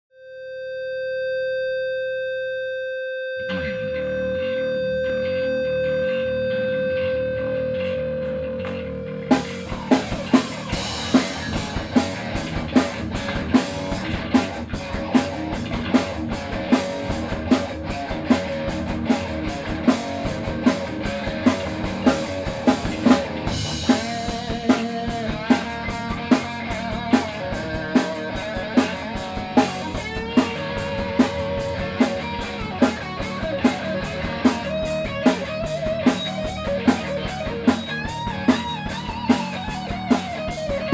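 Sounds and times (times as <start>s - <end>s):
electric guitar: 0.4s - 40.9s
bass guitar: 0.9s - 40.9s
drum kit beat: 7.8s - 40.9s.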